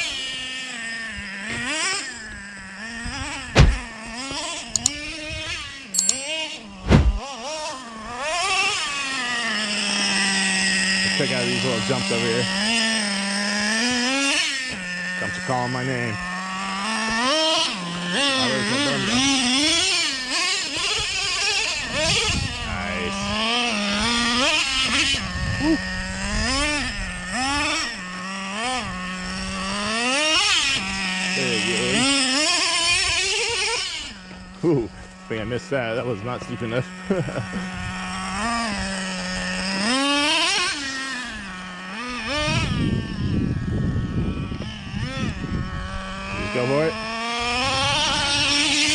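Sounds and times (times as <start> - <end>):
small nitro engine revving: 0.0 - 5.9, 7.2 - 48.9.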